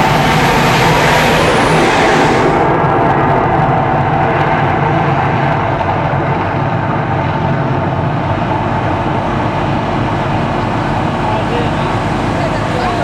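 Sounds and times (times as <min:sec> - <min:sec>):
loud rumbling roar: 0:00.0 - 0:13.0.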